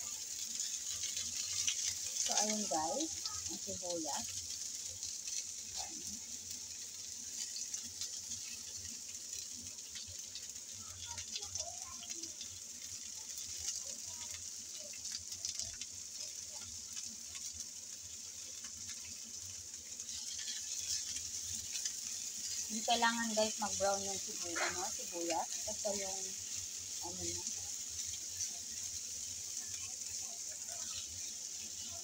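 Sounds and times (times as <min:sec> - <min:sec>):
onions sizzling in oil: 0:00.0 - 0:32.0
spatula stirring in pan: 0:00.0 - 0:32.0.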